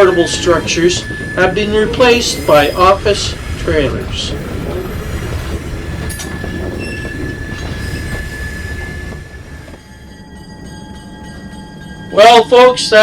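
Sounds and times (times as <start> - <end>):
wheel squeal: 0.0 - 10.5
train rumbling on track: 0.0 - 13.0.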